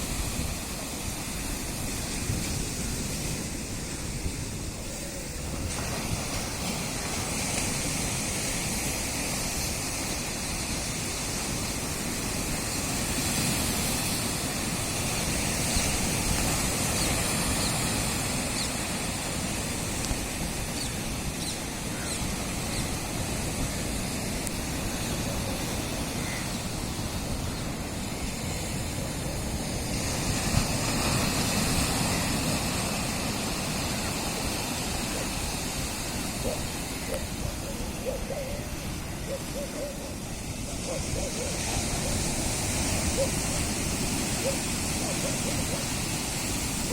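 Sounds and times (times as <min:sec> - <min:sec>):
sea waves breaking on shore: 0:00.0 - 0:46.9.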